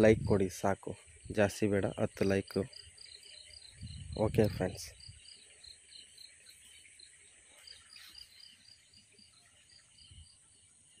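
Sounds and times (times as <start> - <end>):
insect chirps: 0.0 - 11.0
insect chorus humming: 0.0 - 11.0.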